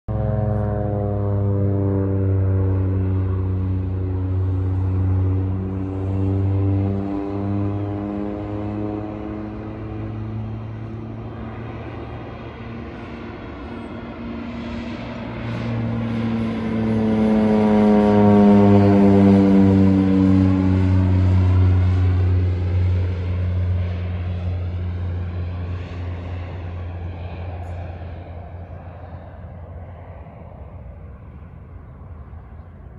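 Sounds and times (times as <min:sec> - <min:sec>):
airplane engine and propeller droning: 0:00.1 - 0:32.9.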